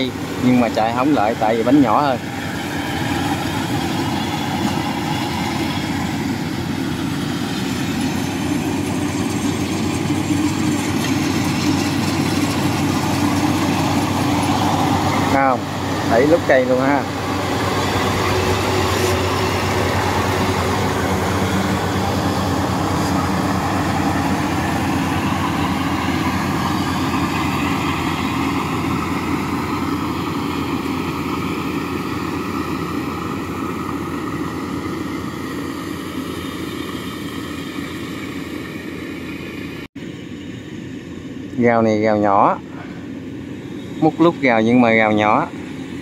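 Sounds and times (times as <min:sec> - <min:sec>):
combine harvester droning: 0:00.0 - 0:46.0.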